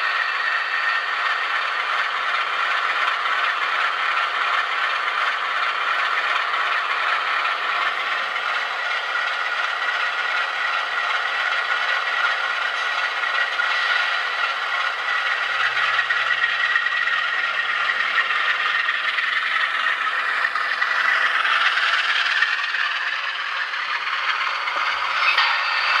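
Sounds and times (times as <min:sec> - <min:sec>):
model locomotive diesel engine sound: 0:00.0 - 0:26.0.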